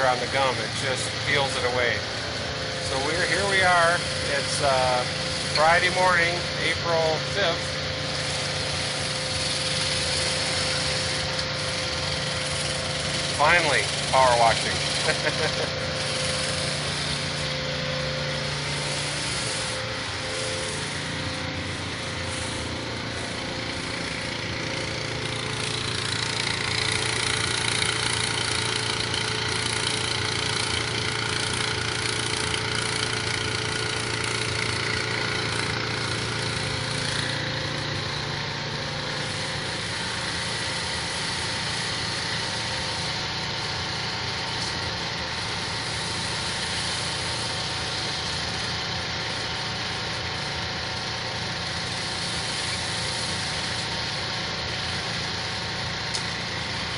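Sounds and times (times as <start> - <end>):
constant low hum: 0.0 - 56.9
pressure washer spray hissing: 0.0 - 56.9.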